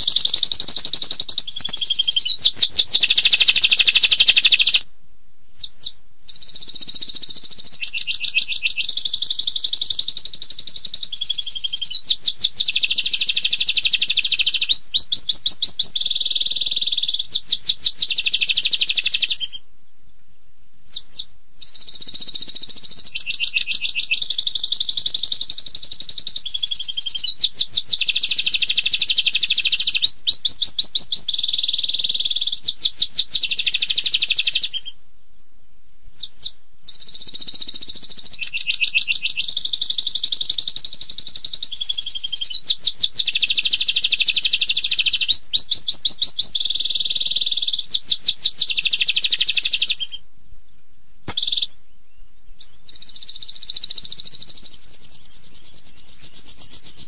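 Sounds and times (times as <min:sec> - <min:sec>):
canary singing trills: 0:00.0 - 0:04.9, 0:05.6 - 0:19.7, 0:20.9 - 0:35.0, 0:36.1 - 0:50.2, 0:51.2 - 0:57.0.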